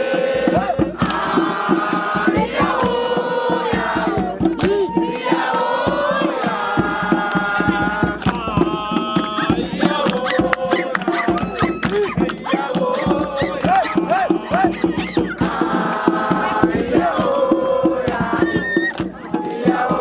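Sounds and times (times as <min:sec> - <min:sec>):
group singing in chorus: 0:00.0 - 0:20.0
sharp percussive strikes: 0:00.0 - 0:20.0.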